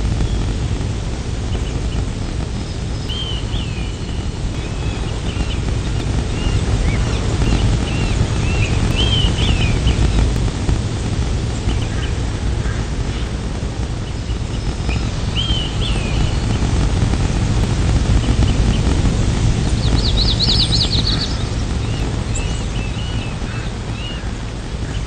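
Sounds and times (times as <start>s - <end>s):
birds chirping: 0.0s - 25.0s
low rushing noise: 0.0s - 25.0s.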